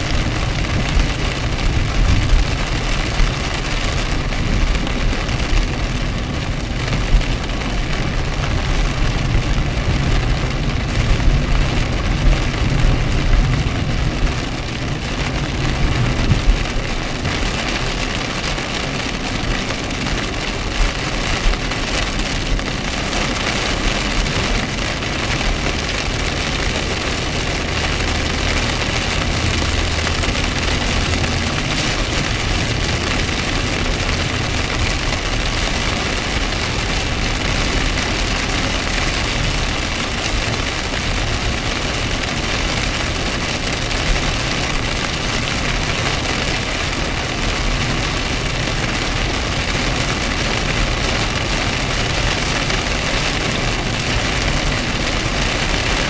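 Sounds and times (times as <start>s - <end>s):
car engine running: 0.0s - 56.0s
heavy rain on a car: 0.0s - 56.0s.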